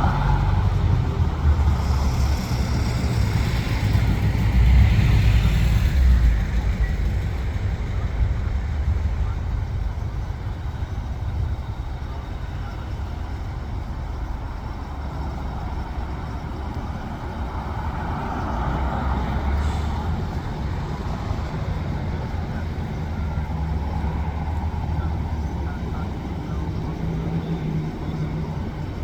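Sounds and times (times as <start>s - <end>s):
vehicles driving by: 0.0s - 29.0s.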